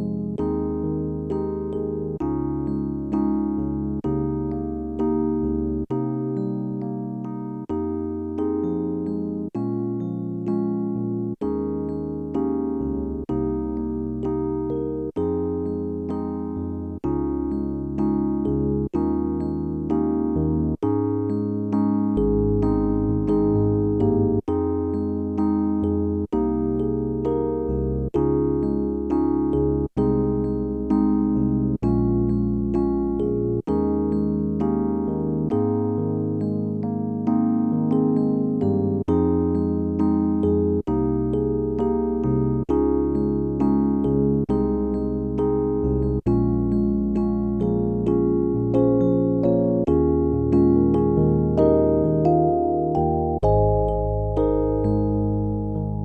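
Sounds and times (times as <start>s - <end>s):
electric piano chords: 0.0s - 56.0s.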